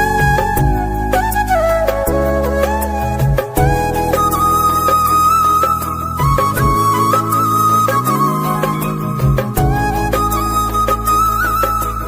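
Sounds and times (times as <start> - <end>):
flute-like melody: 0.0 - 12.0.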